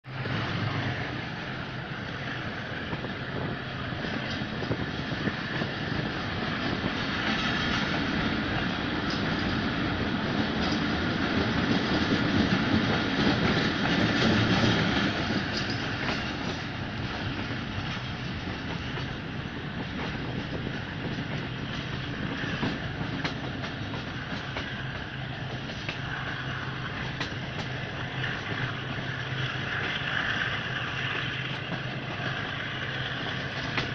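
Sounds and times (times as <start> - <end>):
train wheels on rails: 0.0 - 33.9
clicks of train wheels: 0.2 - 33.9.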